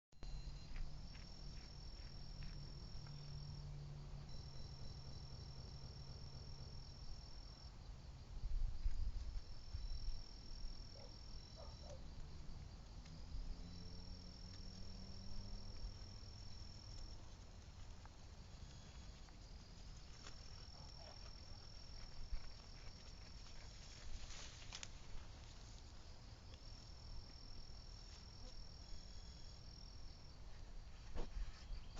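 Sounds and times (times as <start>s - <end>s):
insects trilling: 0.2s - 8.0s, 8.8s - 31.9s.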